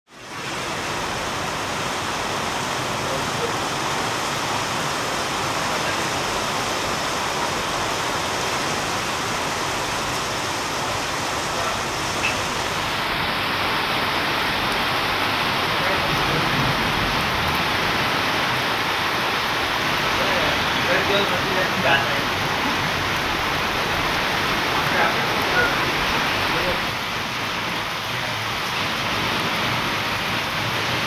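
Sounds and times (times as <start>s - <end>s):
heavy rain pouring: 0.1s - 31.0s.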